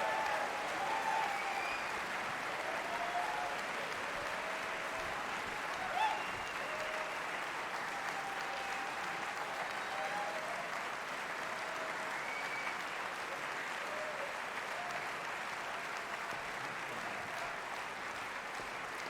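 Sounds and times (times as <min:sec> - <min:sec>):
whistles and cheers: 0:00.0 - 0:15.3
audience applauding: 0:00.0 - 0:19.0.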